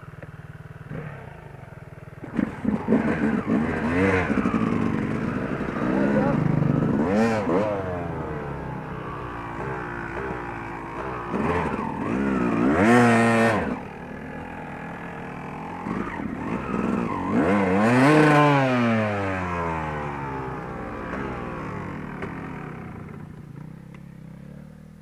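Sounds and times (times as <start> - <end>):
dirt bike engine revving: 0.8 - 23.3.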